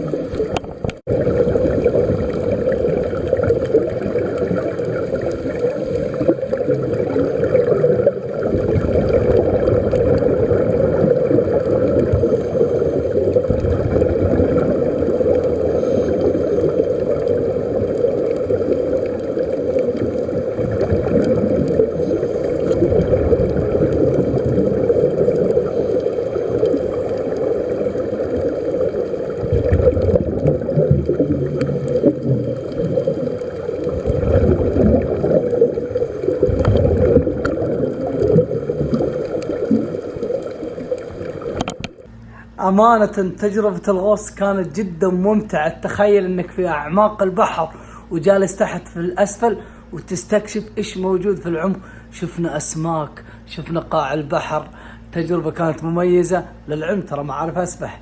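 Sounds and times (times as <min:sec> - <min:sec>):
underwater gurgling and bubbles: 0:00.0 - 0:58.0.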